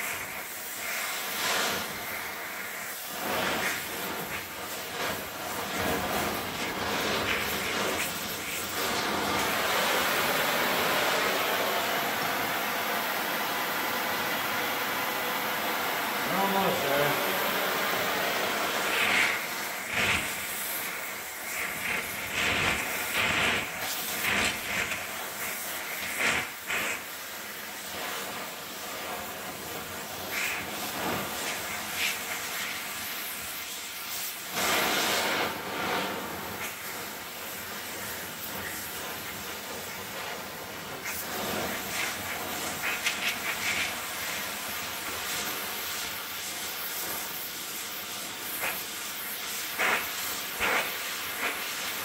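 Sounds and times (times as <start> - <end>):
gas torch flame hissing: 0.0 - 52.0.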